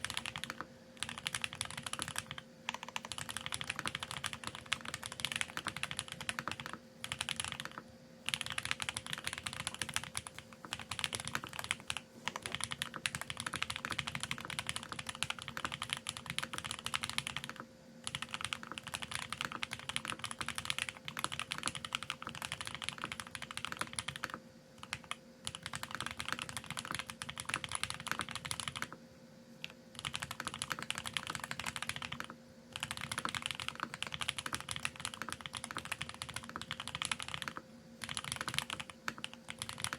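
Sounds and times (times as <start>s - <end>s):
fast typing on mechanical keyboard: 0.0s - 29.0s, 29.6s - 39.9s.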